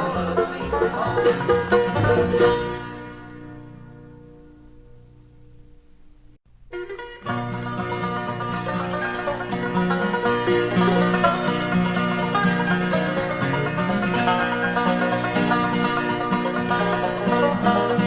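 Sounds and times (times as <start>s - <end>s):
banjo: 0.0s - 5.4s, 6.5s - 18.0s
bass: 0.0s - 18.0s
guitar: 0.0s - 18.0s
mandolin: 0.0s - 18.0s.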